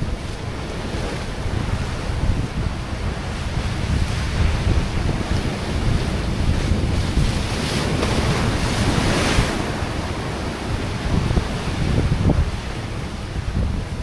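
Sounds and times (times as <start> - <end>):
sea waves on rocks: 0.0 - 12.9
wind buffeting microphone: 0.0 - 14.0.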